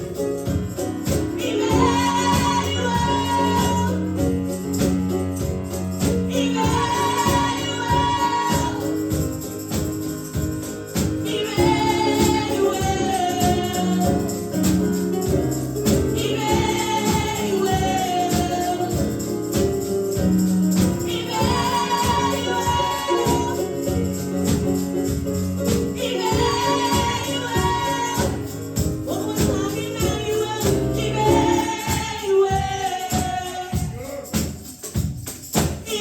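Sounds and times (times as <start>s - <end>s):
gospel singers: 0.0s - 35.0s, 35.6s - 36.0s
band with steady beat: 0.0s - 36.0s
tambourine: 0.0s - 36.0s.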